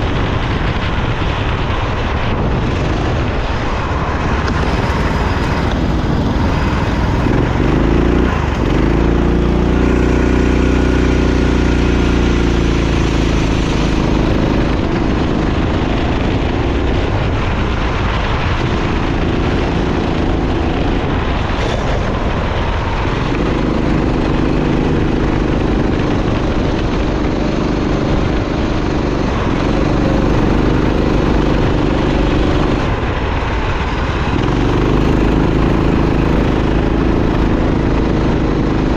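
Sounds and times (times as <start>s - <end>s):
kart engine running hard: 0.0s - 38.9s.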